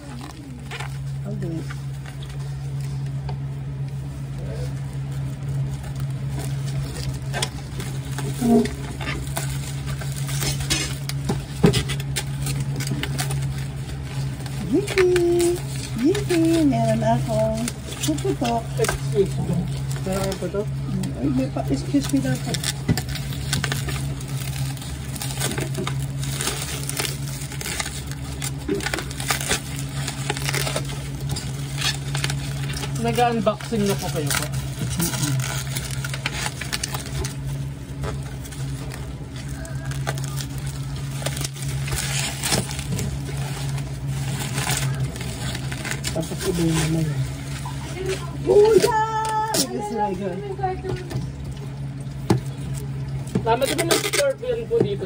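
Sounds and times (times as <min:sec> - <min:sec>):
bubble wrap crinkling: 0:00.0 - 0:55.0
steady low hum: 0:00.0 - 0:55.0.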